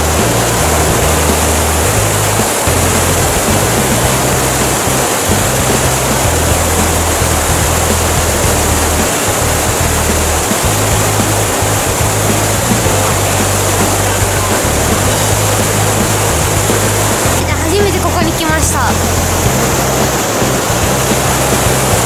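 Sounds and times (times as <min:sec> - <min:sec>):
background music with low held notes: 0:00.0 - 0:22.0
waterfall roaring: 0:00.0 - 0:22.0.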